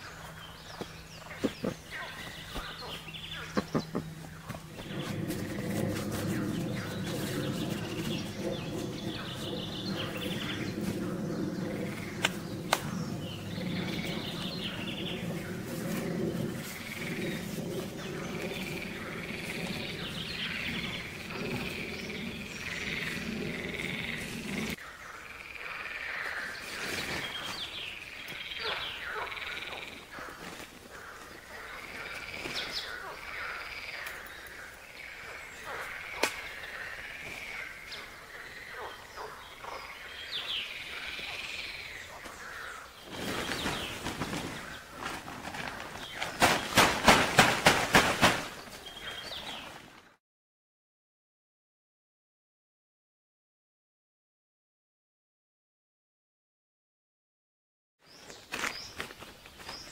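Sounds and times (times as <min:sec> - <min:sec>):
birds singing and chirping: 0:00.0 - 0:50.1.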